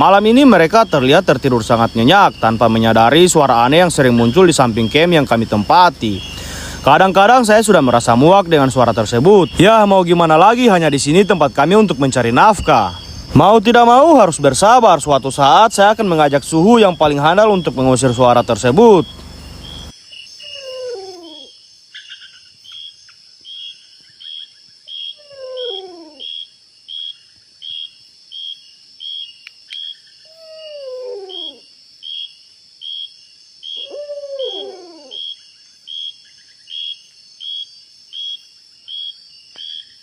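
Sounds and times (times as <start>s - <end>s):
insect chirping: 0.0s - 40.0s
insects buzzing: 0.0s - 40.0s.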